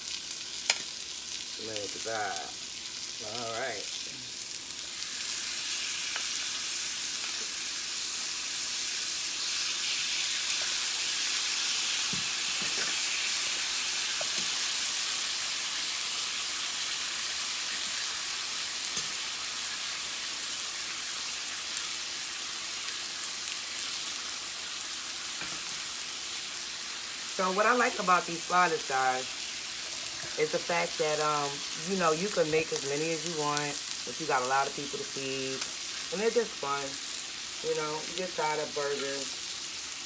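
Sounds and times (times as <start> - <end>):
meat sizzling on a grill: 0.0 - 40.0.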